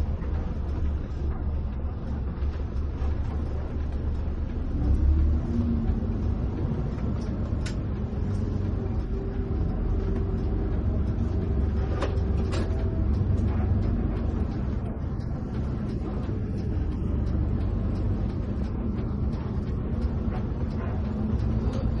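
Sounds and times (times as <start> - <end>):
engine and road rumble: 0.0 - 22.0.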